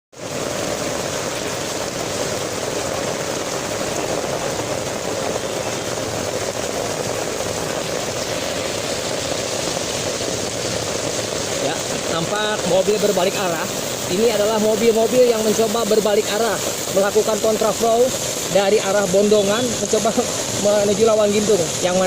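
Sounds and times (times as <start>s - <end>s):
heavy rain: 0.1s - 22.0s.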